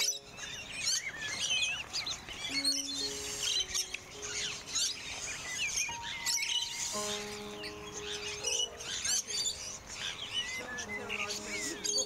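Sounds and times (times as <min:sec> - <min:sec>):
small birds chirping: 0:00.0 - 0:12.0
soft background music: 0:00.0 - 0:12.0.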